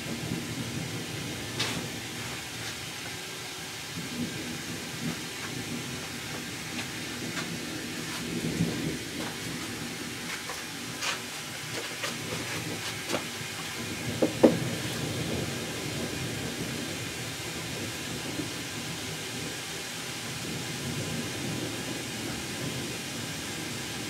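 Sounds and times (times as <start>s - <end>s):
distant thunder rumble: 0.0s - 24.0s
raindrops ticking close by: 0.0s - 24.0s
steady rain: 0.0s - 24.0s.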